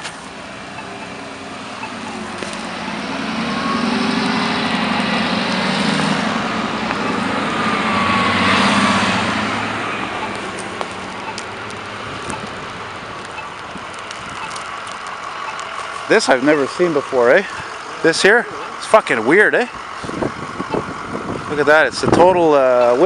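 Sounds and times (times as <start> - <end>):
bus driving past: 0.0 - 23.0.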